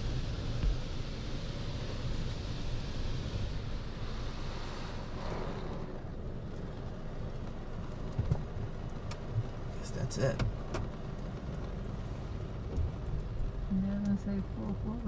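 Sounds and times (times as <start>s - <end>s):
car wash spray jets rushing: 0.0s - 15.0s.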